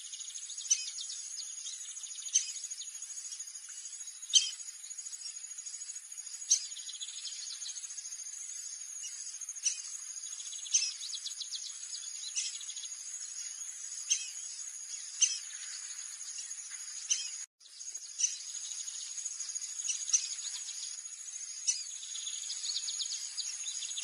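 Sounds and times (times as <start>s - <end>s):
high insect drone: 0.0s - 24.0s
sharp bird chirps: 0.0s - 24.0s.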